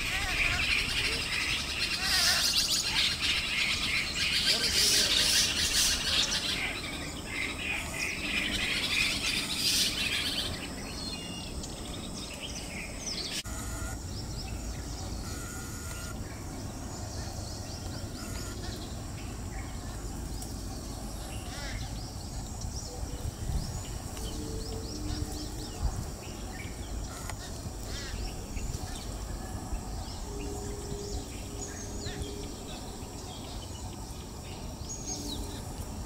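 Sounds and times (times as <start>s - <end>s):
birds chattering harshly: 0.0s - 36.0s
faint scattered bird calls: 0.0s - 36.0s.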